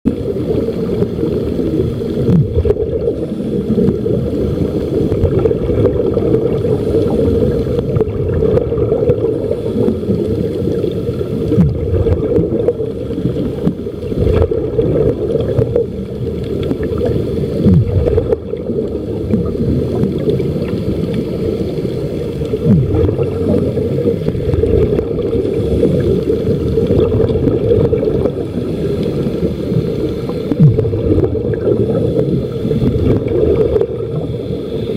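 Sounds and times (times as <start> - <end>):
muffled underwater rumble: 0.0 - 34.9.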